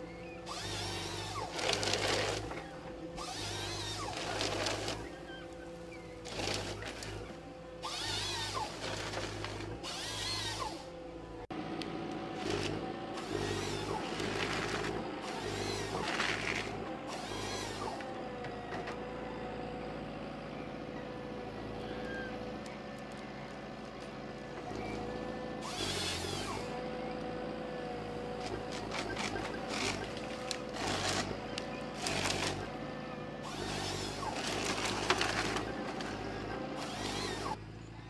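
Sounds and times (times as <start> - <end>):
harvesting head cutting timber: 0.0 - 11.1, 11.8 - 19.0, 23.8 - 37.6
harvester engine and hydraulic whine: 0.0 - 38.0.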